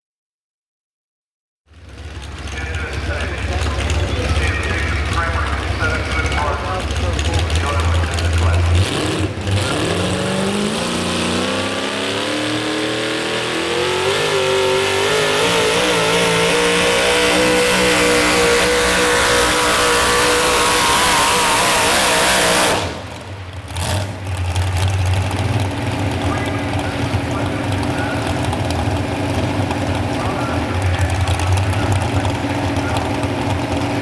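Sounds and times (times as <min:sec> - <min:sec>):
truck engine at full throttle: 0:01.7 - 0:34.0.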